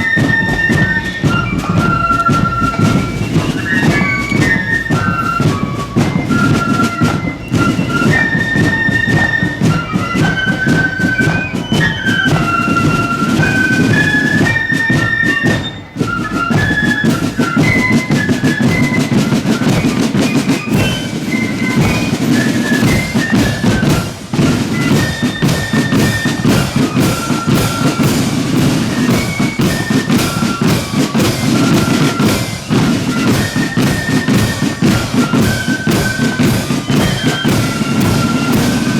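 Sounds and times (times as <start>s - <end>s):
fast snare drumming: 0.0s - 38.9s
flutes playing melody: 0.0s - 38.9s.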